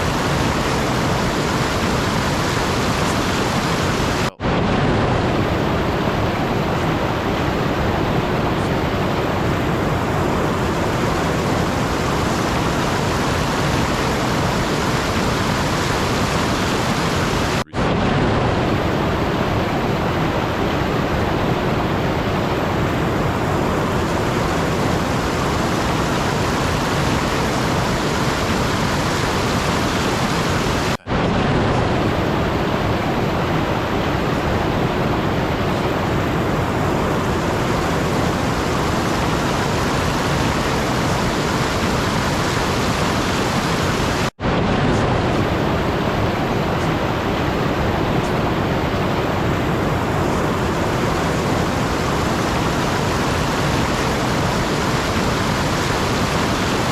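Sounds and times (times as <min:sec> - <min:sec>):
steady rushing noise: 0:00.0 - 0:56.9.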